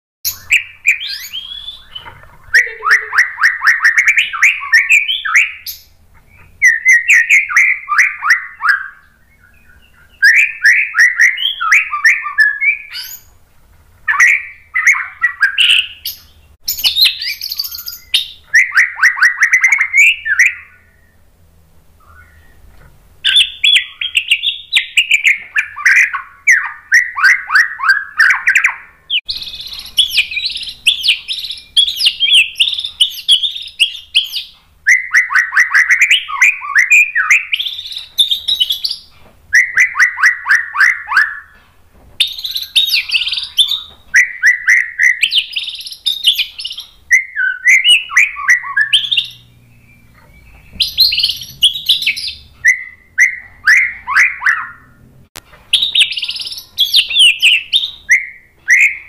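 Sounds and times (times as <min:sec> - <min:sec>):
bird singing whistled trills: 0:00.2 - 0:13.3, 0:14.1 - 0:21.2, 0:22.0 - 0:41.6, 0:42.2 - 0:55.0, 0:55.7 - 0:59.0.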